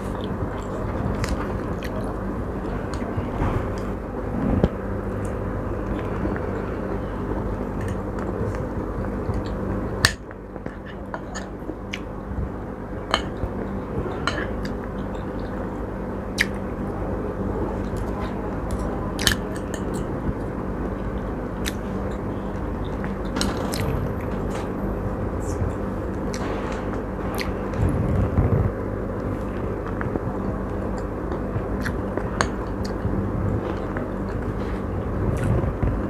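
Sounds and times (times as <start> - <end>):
background hum: 0.0 - 36.0.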